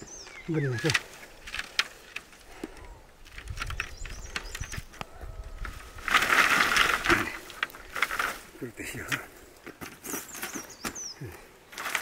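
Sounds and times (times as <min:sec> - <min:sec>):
leaves rustling: 0:00.0 - 0:12.0.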